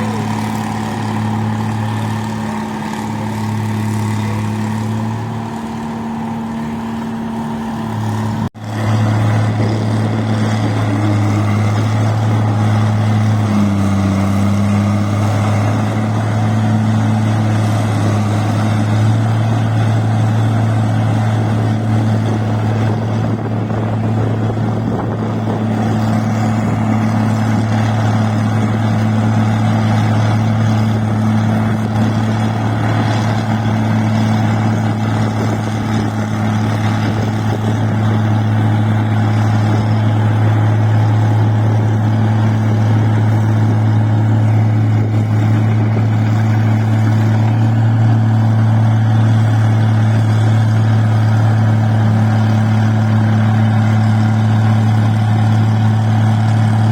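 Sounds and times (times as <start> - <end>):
machine engine hum and whirr: 0.0 - 56.9.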